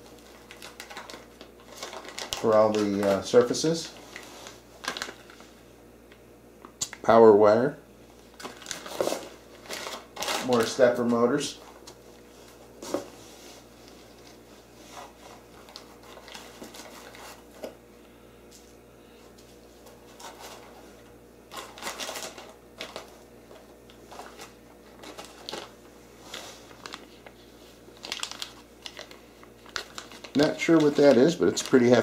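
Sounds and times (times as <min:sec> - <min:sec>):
plastic packaging rustling: 0:00.0 - 0:05.6, 0:08.3 - 0:17.8, 0:19.4 - 0:32.0.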